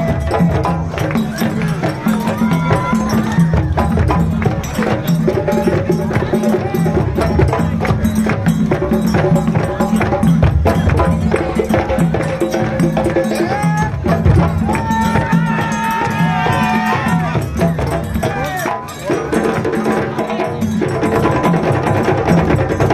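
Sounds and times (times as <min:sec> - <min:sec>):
percussion ensemble drumming: 0:00.0 - 0:22.9.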